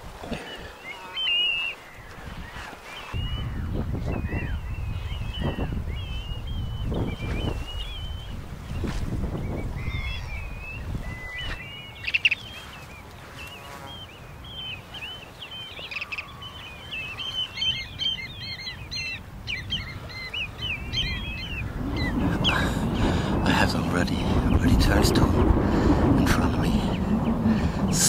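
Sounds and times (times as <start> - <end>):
shorebirds chirping: 0.0 - 28.0
wind rumble: 2.1 - 13.4, 14.1 - 28.0.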